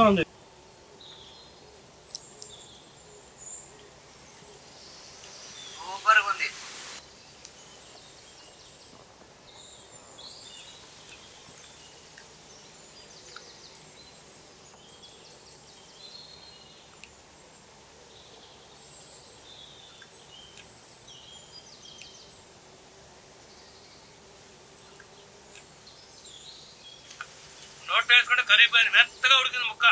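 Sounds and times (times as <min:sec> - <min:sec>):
small birds chirping: 0:00.0 - 0:22.6, 0:23.2 - 0:29.9
low background hiss: 0:00.0 - 0:29.9.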